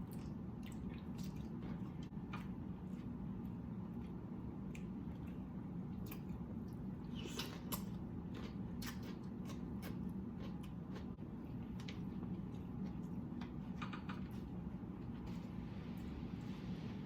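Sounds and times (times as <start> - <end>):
person chewing wet food: 0.0 - 15.2.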